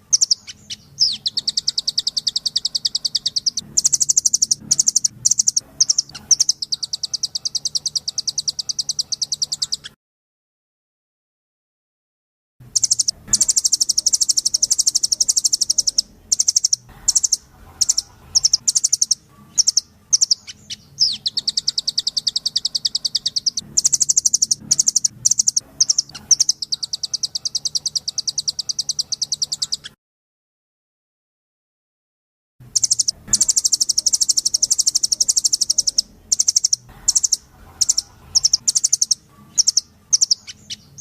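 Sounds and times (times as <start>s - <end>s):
short bird chirps: 0.0s - 10.0s, 12.8s - 30.0s, 32.8s - 41.0s.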